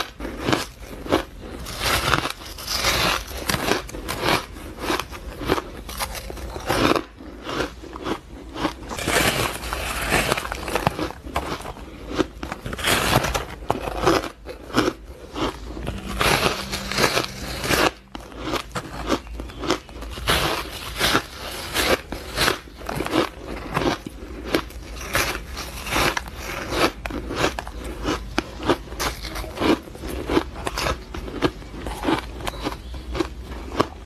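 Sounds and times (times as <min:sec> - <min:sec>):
person crunching ice: 0:00.0 - 0:34.0.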